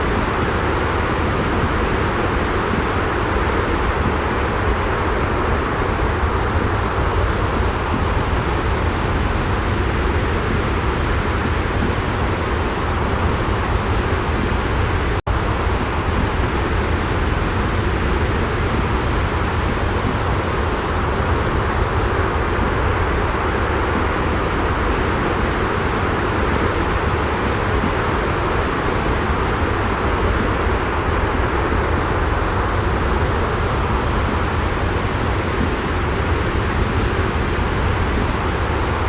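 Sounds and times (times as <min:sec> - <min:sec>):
steady white noise: 0:00.0 - 0:39.0.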